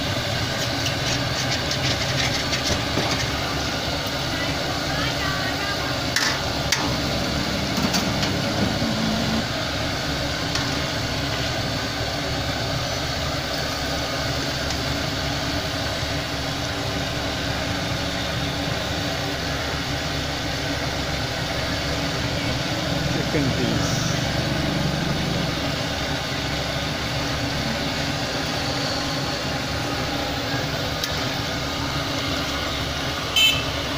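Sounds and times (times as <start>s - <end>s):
deep-frying oil sizzling: 0.0s - 33.9s.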